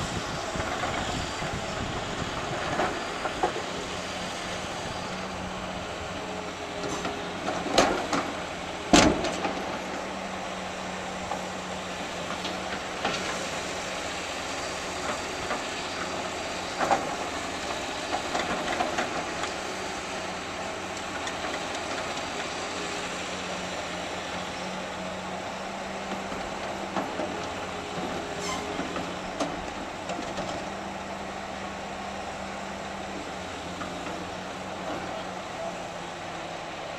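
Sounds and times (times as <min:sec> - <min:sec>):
machinery engine humming: 0:00.0 - 0:36.9.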